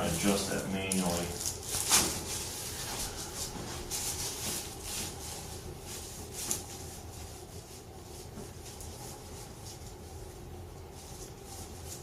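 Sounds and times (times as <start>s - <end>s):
soft rustling: 0.0s - 12.0s.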